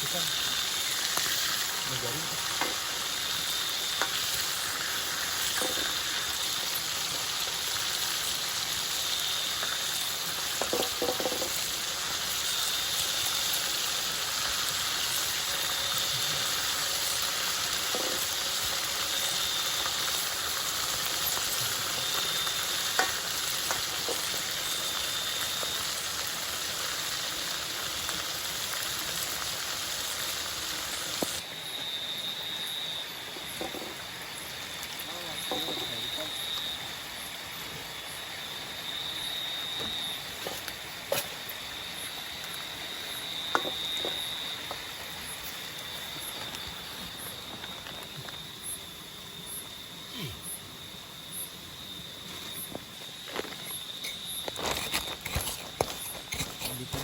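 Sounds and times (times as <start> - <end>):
insect trilling: 0.0 - 57.0
steady hiss: 0.0 - 57.0.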